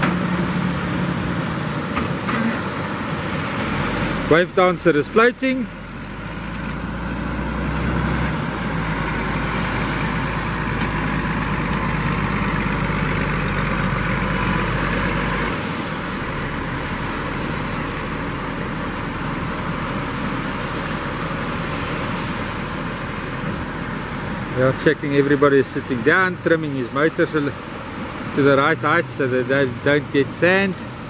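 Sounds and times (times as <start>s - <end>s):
surf washing onto beach: 0.0s - 31.0s
tractor diesel engine rumble: 0.0s - 31.0s.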